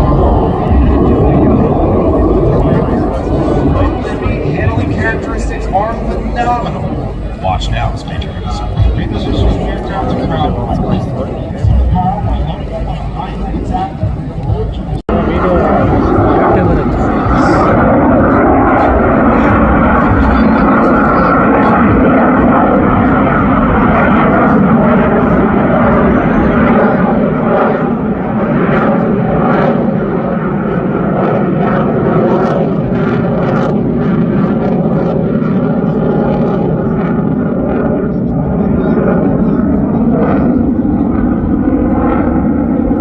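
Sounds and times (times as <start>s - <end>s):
jet engine roar: 0.0s - 43.0s.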